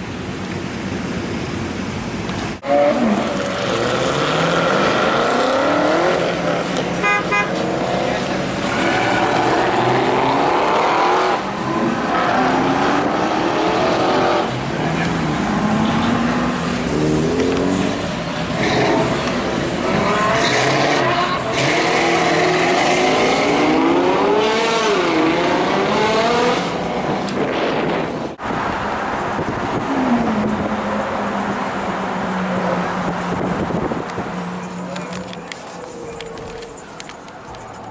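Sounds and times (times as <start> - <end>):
sports car engines revving: 0.2 - 37.9.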